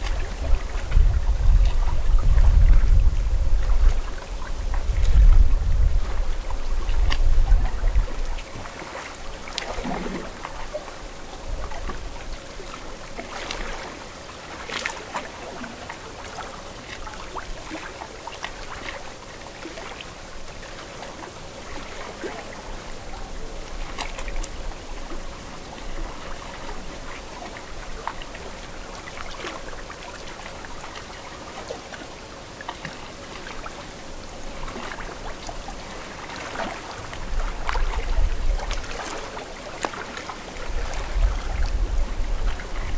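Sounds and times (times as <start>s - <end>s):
small waves lapping on shore: 0.0s - 42.9s
little splashes: 6.0s - 42.9s.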